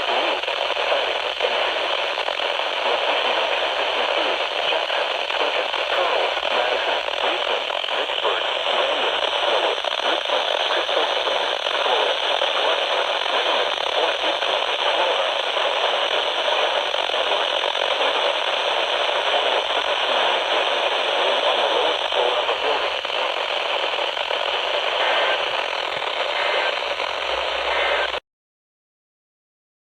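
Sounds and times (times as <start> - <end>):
radio static hiss and crackle: 0.0 - 28.2.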